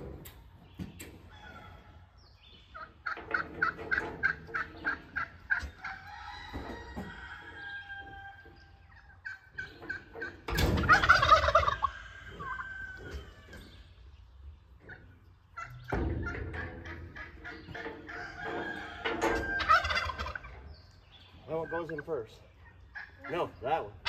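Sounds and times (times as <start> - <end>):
hens clucking: 0.0 - 24.0
turkey gobbling: 2.7 - 13.5, 14.9 - 24.0.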